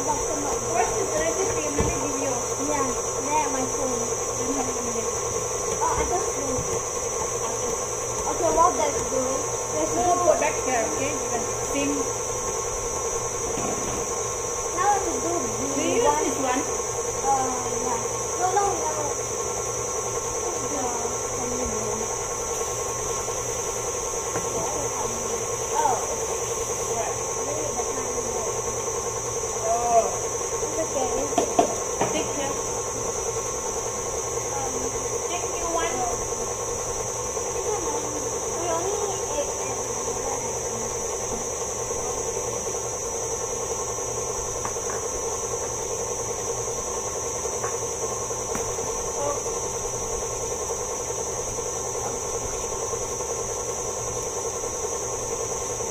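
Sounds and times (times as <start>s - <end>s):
stand mixer motor humming: 0.0s - 55.9s.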